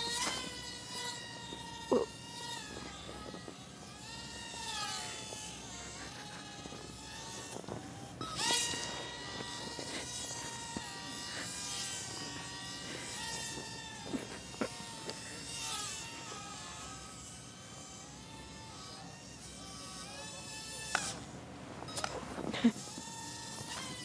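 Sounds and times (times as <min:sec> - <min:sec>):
small electric motor whining: 0:00.0 - 0:24.0.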